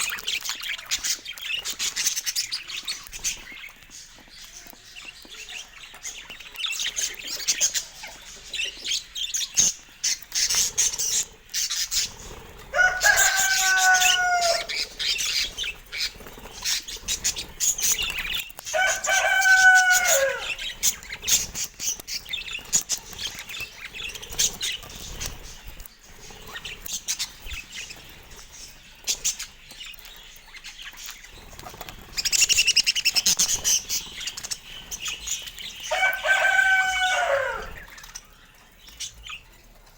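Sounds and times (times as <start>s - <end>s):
budgerigars chattering: 0.0s - 38.2s.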